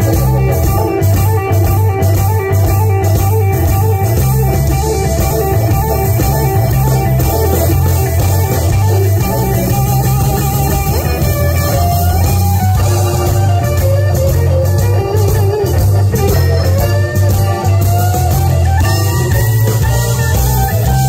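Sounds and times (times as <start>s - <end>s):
blues band playing: 0.0s - 21.0s
electric guitar bent notes: 0.0s - 21.0s.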